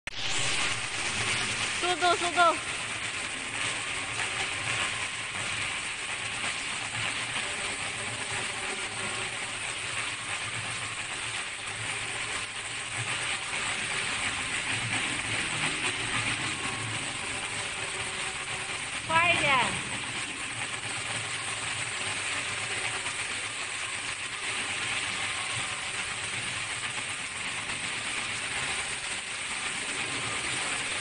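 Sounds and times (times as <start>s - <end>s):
machine whirring: 0.1s - 31.0s.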